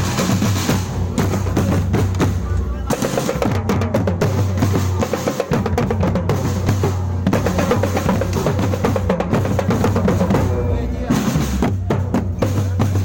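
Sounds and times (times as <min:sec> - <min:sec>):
drum-driven music: 0:00.0 - 0:13.0.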